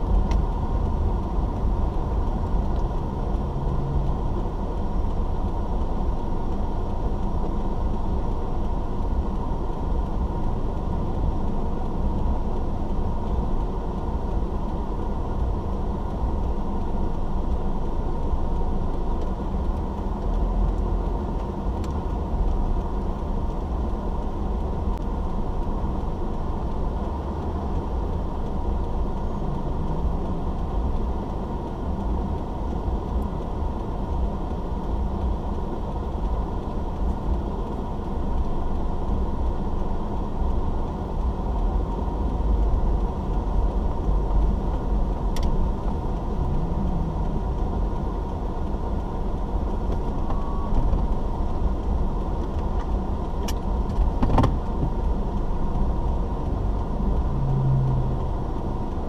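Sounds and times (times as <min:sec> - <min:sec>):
car engine rumble: 0:00.0 - 0:59.0
road noise: 0:00.0 - 0:59.0.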